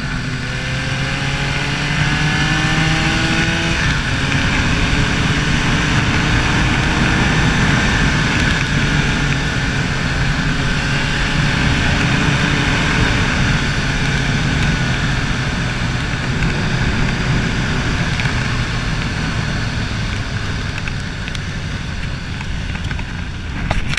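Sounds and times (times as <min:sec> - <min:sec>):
motorcycle engine running: 0:00.0 - 0:23.9
wind rushing over microphone: 0:00.0 - 0:23.9.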